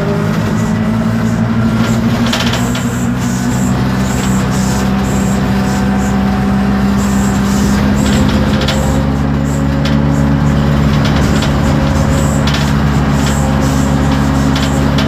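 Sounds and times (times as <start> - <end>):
bus diesel engine running: 0.0 - 15.0
interior parts rattling: 0.0 - 15.0.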